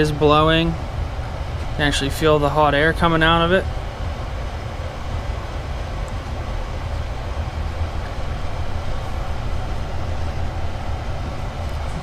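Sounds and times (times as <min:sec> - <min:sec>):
heater blower fan rumble: 0:00.0 - 0:12.0.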